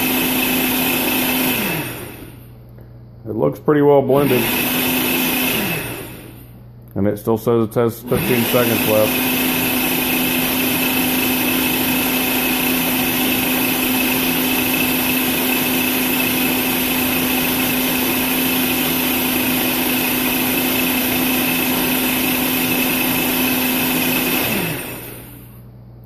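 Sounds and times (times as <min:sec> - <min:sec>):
blender running: 0:00.0 - 0:02.5, 0:04.1 - 0:06.6, 0:08.0 - 0:25.7.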